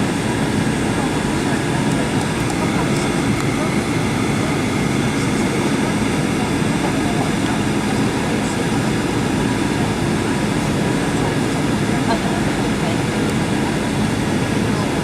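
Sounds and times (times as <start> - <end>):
jet engine cabin rumble: 0.0 - 15.0.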